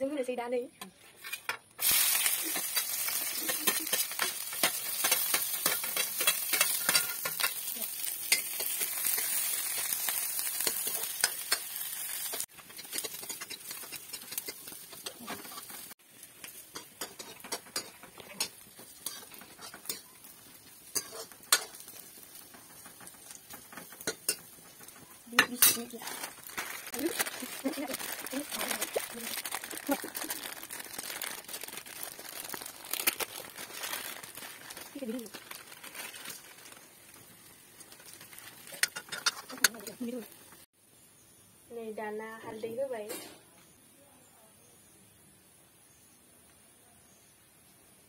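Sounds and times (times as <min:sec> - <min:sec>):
onions sizzling in hot oil: 0:01.8 - 0:43.2.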